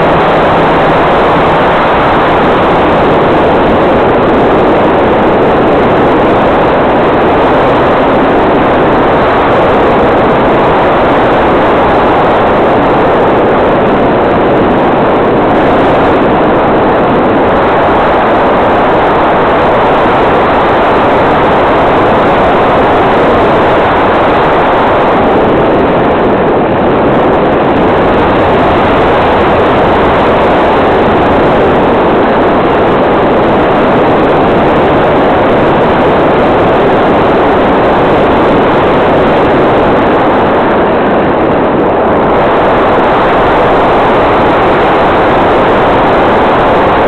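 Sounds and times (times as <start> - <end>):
rush of airflow: 0.0 - 47.0.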